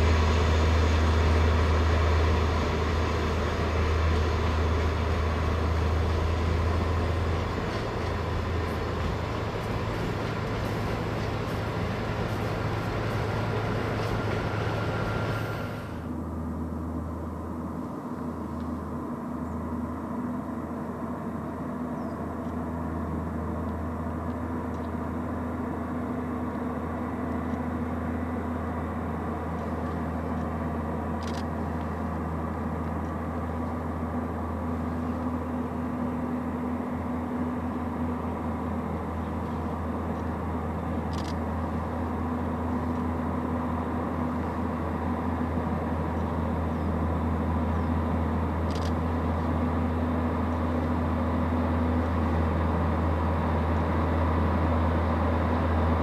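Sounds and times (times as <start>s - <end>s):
diesel train engine droning: 0.0s - 56.0s.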